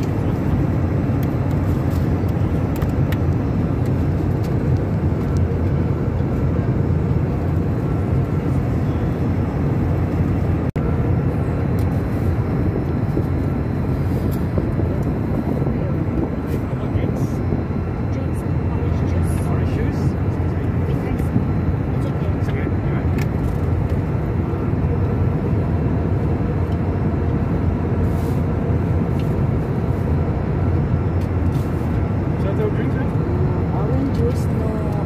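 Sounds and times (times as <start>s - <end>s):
airliner cabin roar: 0.0s - 35.0s.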